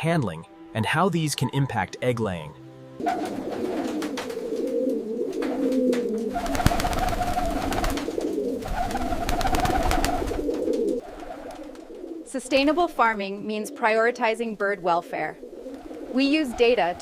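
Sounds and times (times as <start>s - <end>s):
pigeons cooing: 3.0s - 17.0s.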